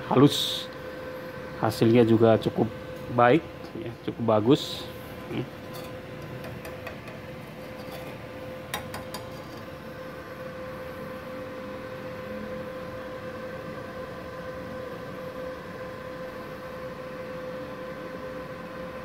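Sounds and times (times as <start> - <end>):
welder hum with cooling fan: 0.0 - 19.0.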